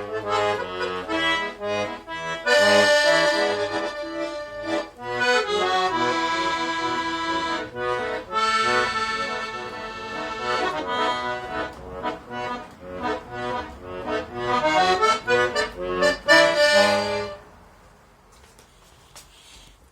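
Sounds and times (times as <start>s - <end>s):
accordion playing chords: 0.0s - 17.6s.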